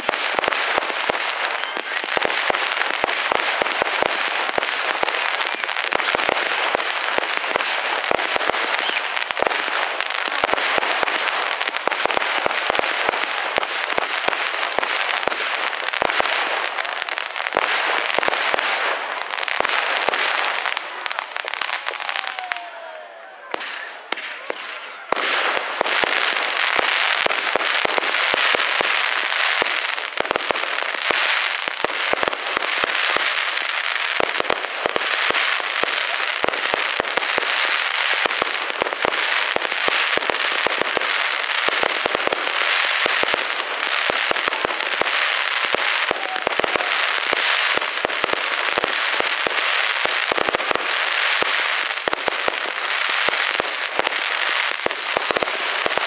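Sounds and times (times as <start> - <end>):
fireworks crackling and popping: 0.0 - 56.0.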